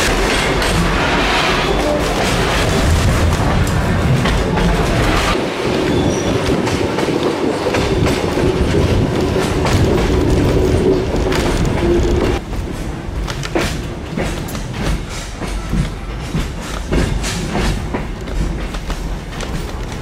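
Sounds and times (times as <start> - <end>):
train carriages rolling on track: 0.0 - 20.0.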